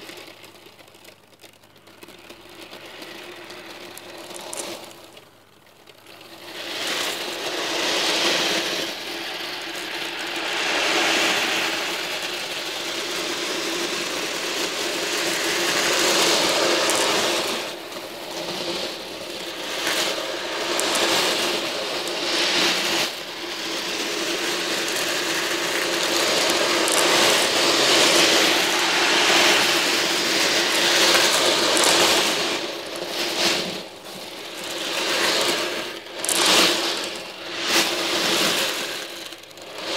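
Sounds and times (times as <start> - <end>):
steady mechanical hum: 0.0 - 39.9
steel balls rattling in tray: 0.0 - 39.9.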